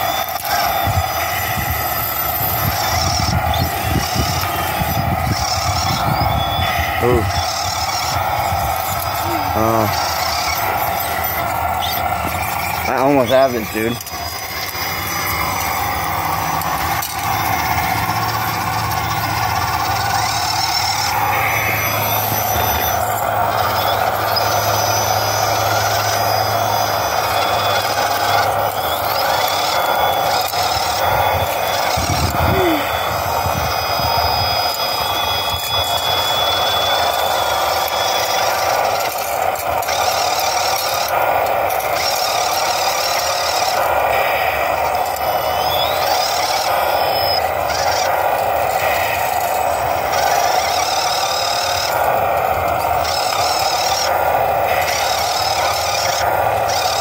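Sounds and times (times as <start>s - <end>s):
small electric motors whining: 0.0s - 57.0s.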